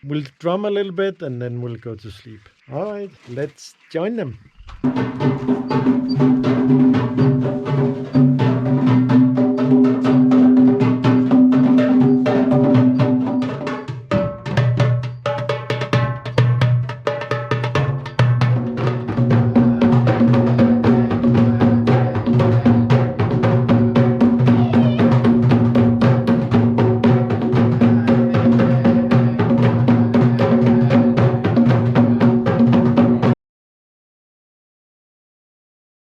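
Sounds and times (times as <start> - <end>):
drums playing fast rhythm: 4.1 - 33.4.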